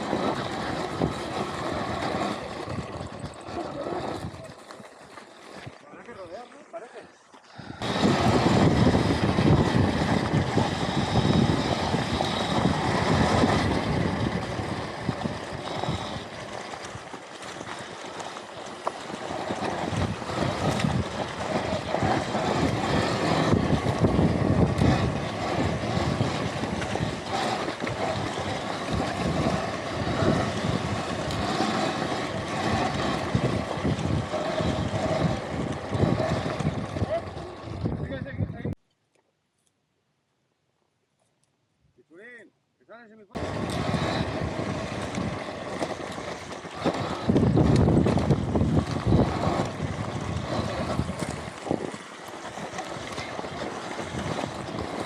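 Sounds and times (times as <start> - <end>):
wind buffeting microphone: 0.0 - 4.6, 7.5 - 17.9, 19.0 - 38.8, 43.4 - 55.0
faint motor whine: 0.0 - 38.5, 43.4 - 55.0
tyre and trail noise: 0.0 - 38.8, 43.4 - 55.0.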